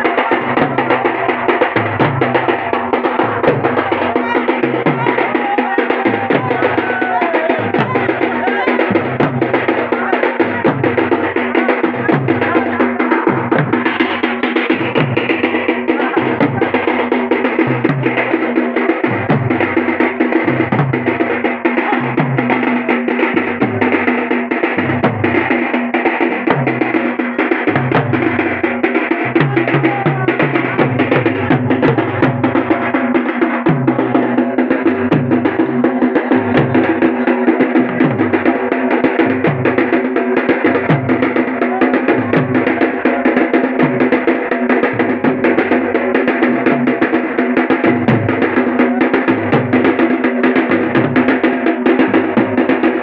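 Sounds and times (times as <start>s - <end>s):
barrel drums playing: 0.0s - 53.0s.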